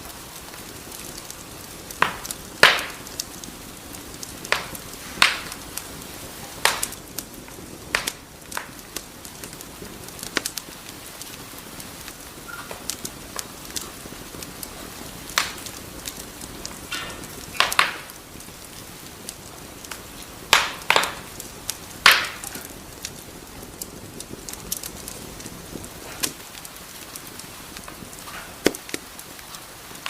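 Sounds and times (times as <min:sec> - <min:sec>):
fire pops and snaps: 0:00.0 - 0:30.0
hiss of burning: 0:00.0 - 0:30.0.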